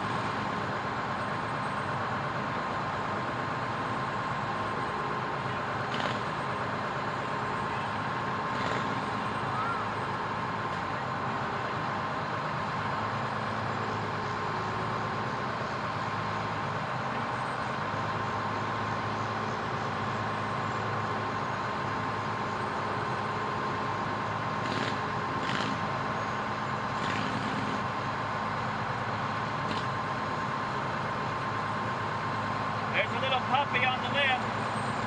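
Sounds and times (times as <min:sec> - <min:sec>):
fire truck engine running: 0:00.0 - 0:35.0.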